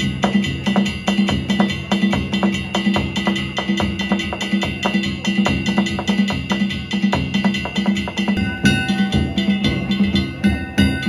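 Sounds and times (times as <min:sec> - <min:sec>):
music with fast percussion beat: 0:00.0 - 0:11.0.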